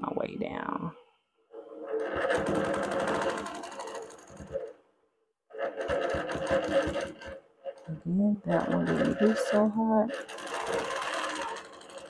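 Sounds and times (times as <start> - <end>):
quilting machine stitching: 1.5 - 4.9, 5.5 - 12.0.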